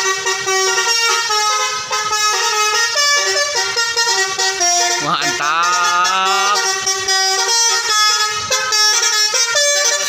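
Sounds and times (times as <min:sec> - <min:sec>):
musical bus air horn: 0:00.0 - 0:10.0.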